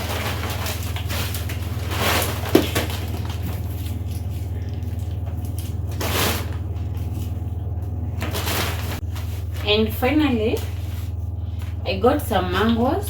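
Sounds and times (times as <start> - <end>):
produce rustling: 0.0 - 13.0
steady low hum: 0.0 - 13.0.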